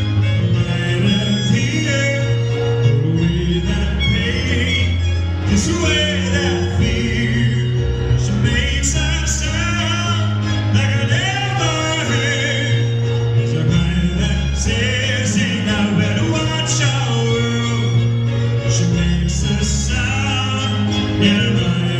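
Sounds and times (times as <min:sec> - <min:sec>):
live pop band with strings: 0:00.0 - 0:21.9
man singing: 0:00.0 - 0:21.9.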